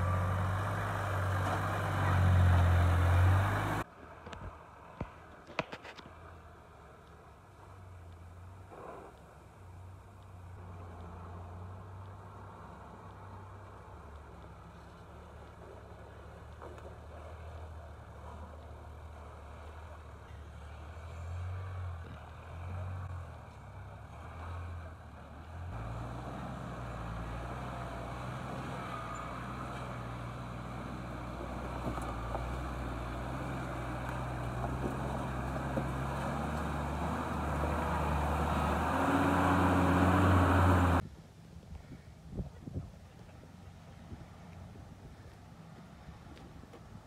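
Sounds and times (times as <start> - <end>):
off-road vehicle engine: 0.0 - 41.1.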